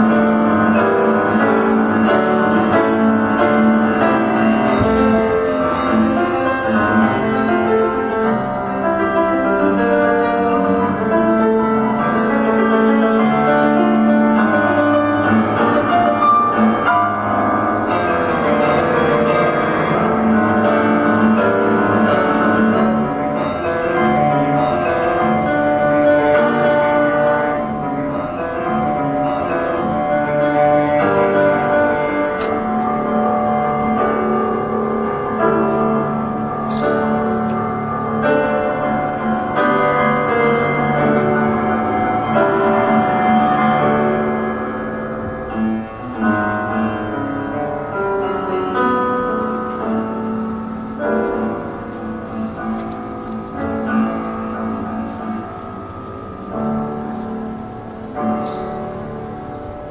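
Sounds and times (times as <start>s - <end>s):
held low note: 0.0s - 48.1s
instrumental melody over chords: 0.0s - 59.9s.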